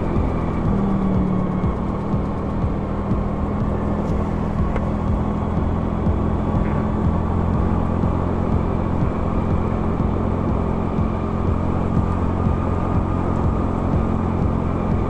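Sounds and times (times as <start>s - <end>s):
motorcycle engine cruising: 0.0s - 15.0s
road rumble: 0.0s - 15.0s.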